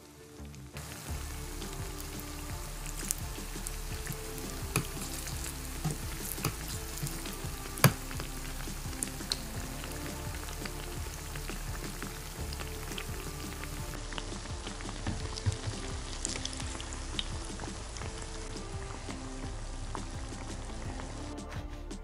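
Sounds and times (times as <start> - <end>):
deep-frying sizzle in hot oil: 0.1 - 21.2.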